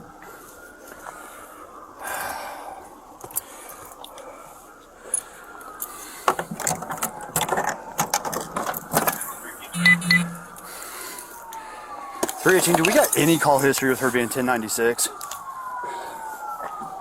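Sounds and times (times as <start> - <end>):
faint wailing siren: 0.0 - 17.0.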